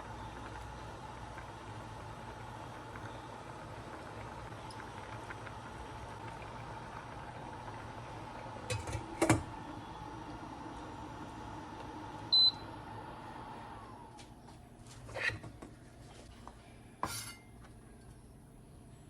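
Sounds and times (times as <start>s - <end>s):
electrical appliance hum: 0.0s - 19.0s.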